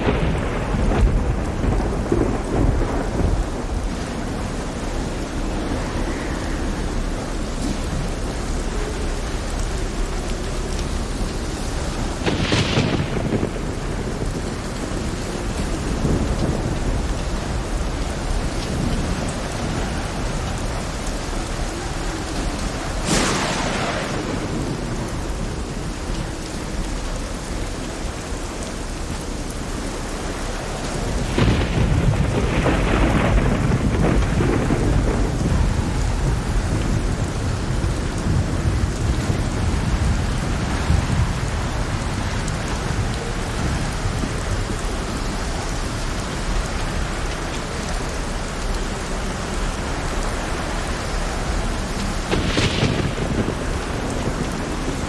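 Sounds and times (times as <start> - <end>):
heavy rain pouring: 0.0 - 55.0
thunderclaps: 0.0 - 55.0.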